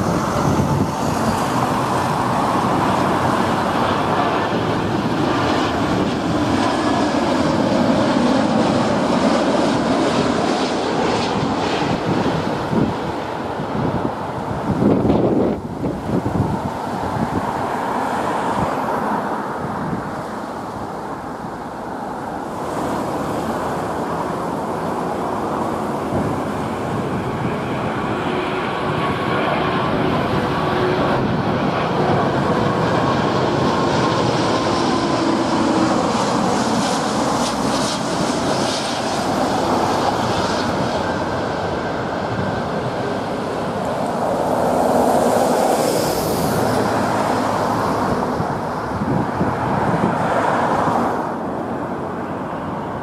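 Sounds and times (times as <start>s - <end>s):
faint jet whine: 0.0s - 53.0s
jet engine roar: 0.0s - 53.0s.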